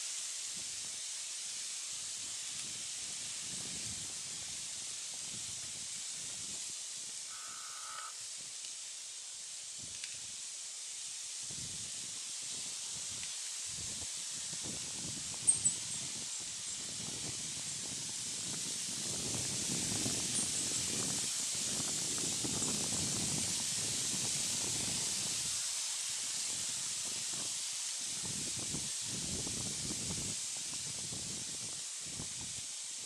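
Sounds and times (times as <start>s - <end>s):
steady high-pitched hiss: 0.0s - 33.0s.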